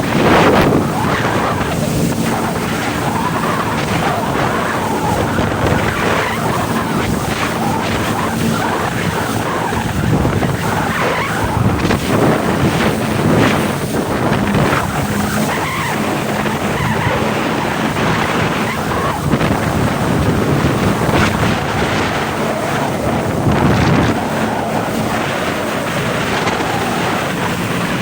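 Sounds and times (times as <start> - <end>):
jet ski engine hum: 0.0 - 28.0
rushing water: 0.0 - 28.0
wind noise on microphone: 0.0 - 28.0.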